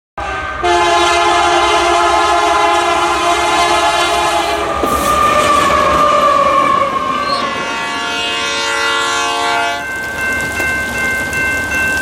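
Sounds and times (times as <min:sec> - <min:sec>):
locomotive air horn chord: 0:00.2 - 0:09.9.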